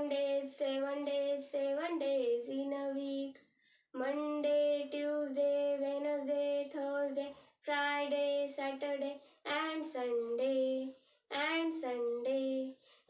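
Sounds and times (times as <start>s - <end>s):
woman singing unaccompanied: 0.0s - 12.8s.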